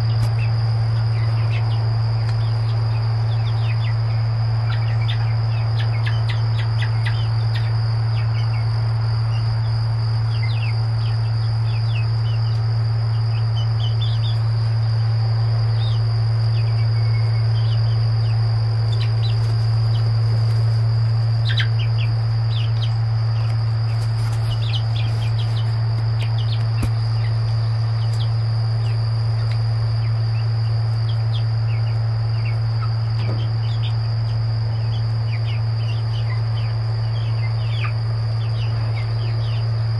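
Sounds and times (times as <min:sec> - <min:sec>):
chicks peeping: 0:00.0 - 0:39.9
constant high whine: 0:00.0 - 0:39.9
steady low hum: 0:00.0 - 0:39.9.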